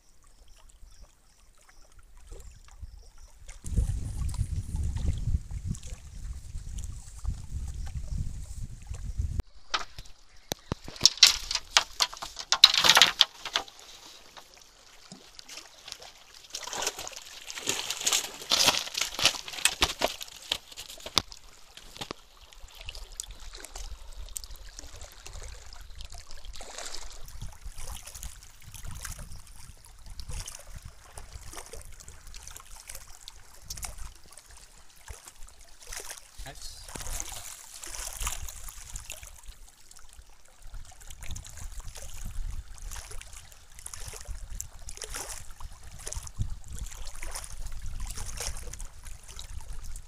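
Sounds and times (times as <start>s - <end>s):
water splashing and sloshing: 0.2s - 50.0s.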